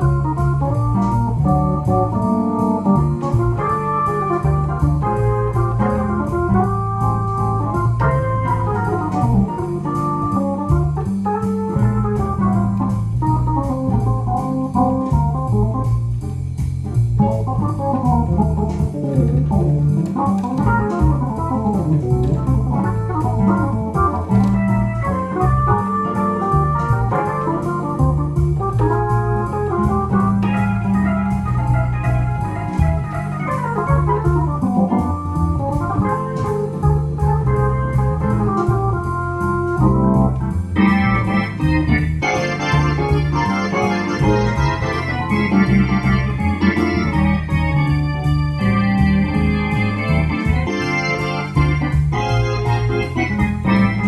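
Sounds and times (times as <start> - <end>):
electronic jazz organ swing: 0.0 - 54.0.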